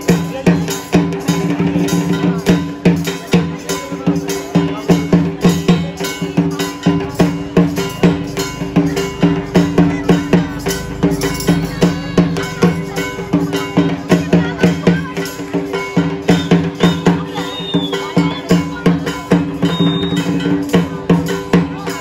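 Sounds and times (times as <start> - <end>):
metallic percussion: 0.0 - 22.0
rhythmic drum music: 0.0 - 22.0.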